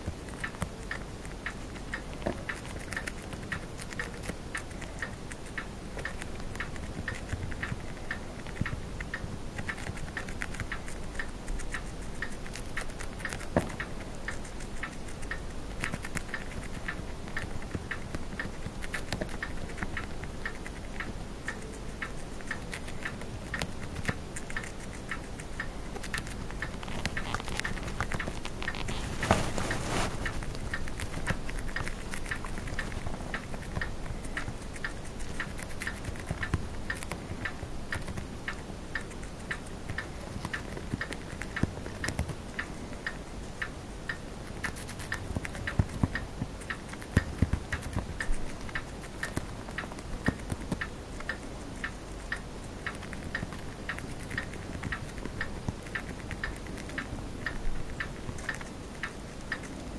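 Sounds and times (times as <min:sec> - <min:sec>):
hamster nibbling lettuce: 0:00.0 - 0:59.9
steady even ticking: 0:00.0 - 0:59.9.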